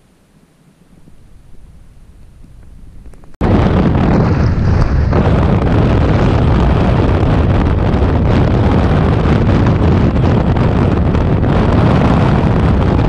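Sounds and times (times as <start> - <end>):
road rumble: 0.9 - 13.0
wind rushing over microphone: 1.0 - 13.0.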